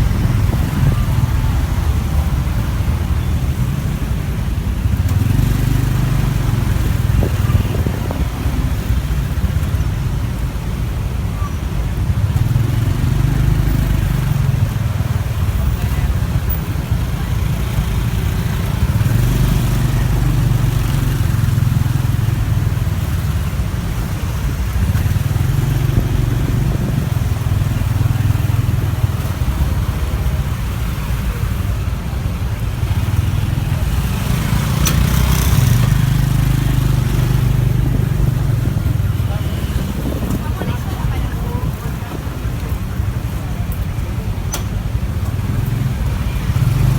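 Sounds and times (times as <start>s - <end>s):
motorbike engine humming: 0.0s - 46.9s.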